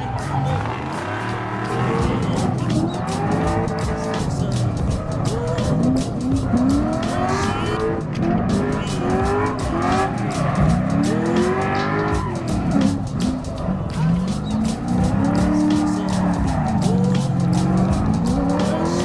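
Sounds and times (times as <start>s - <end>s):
car engine revving: 0.0s - 19.0s
tyres skidding and squealing: 0.0s - 19.0s.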